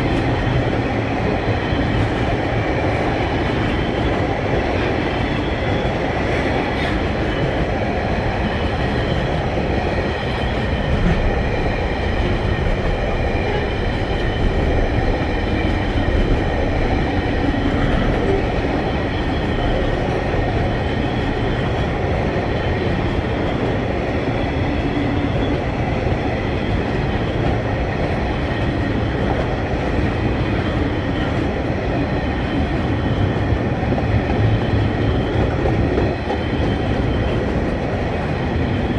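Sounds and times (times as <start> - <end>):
train wheels rolling on rails: 0.0 - 38.9.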